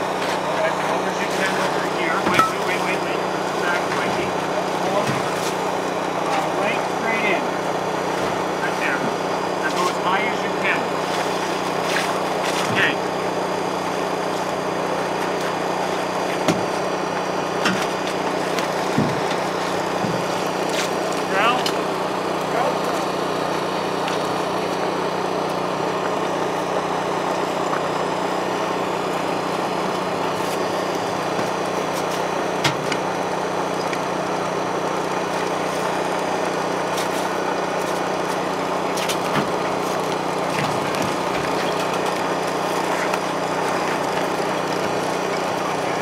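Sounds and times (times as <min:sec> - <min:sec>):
small engine running steadily: 0:00.0 - 0:46.0.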